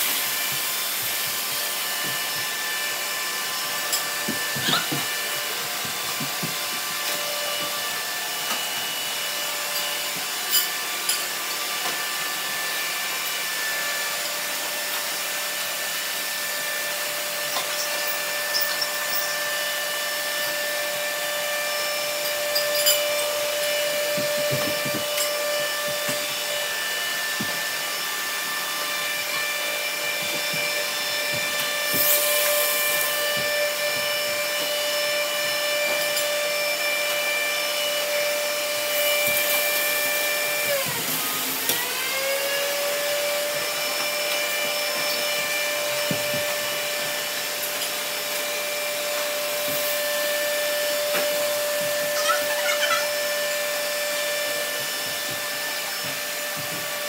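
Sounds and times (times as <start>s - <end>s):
robot vacuums whirring: 0.0s - 57.0s.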